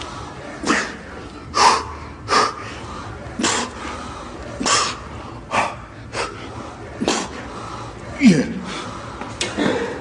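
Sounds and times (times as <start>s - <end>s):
man's forceful breaths: 0.0s - 10.0s.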